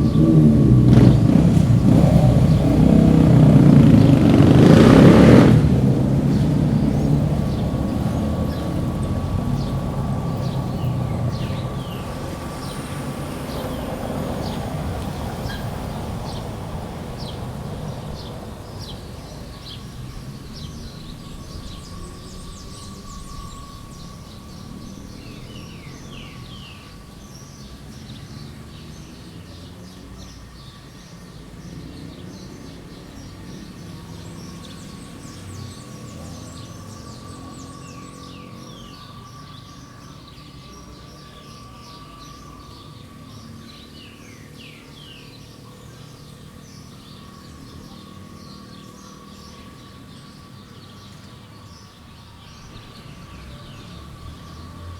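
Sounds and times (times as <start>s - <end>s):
small birds chirping: 0.0s - 54.9s
vehicle rumble: 0.0s - 54.9s.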